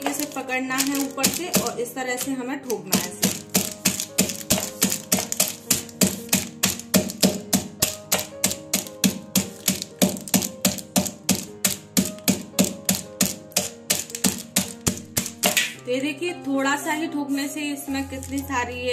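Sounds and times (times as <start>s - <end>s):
pestle pounding on stone counter: 0.0s - 15.8s
background music: 0.0s - 18.9s.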